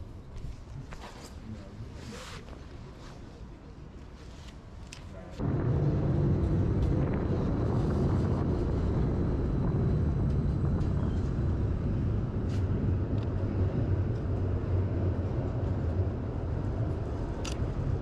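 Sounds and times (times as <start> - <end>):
tram low rumble: 0.0 - 18.0.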